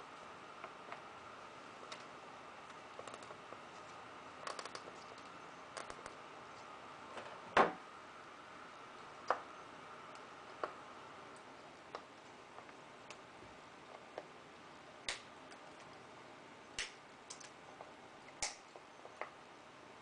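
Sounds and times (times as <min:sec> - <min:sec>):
faint background hiss: 0:00.0 - 0:20.0.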